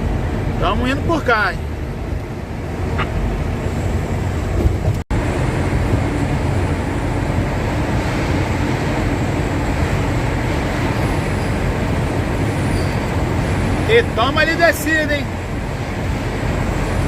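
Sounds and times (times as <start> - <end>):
road noise: 0.0 - 17.0
truck engine from inside cab: 0.0 - 17.0.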